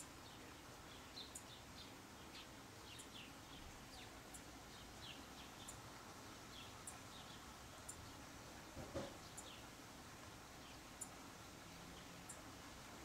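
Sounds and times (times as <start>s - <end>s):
small birds chirping: 0.0s - 13.0s
soft steady hiss: 0.0s - 13.0s.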